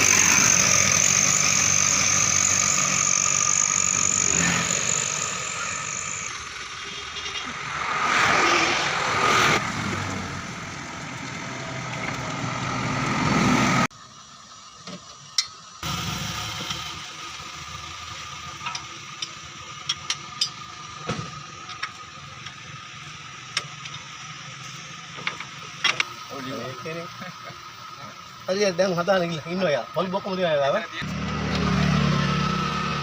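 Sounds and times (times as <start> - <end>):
vehicle engine running: 0.0 - 14.8, 15.6 - 33.0.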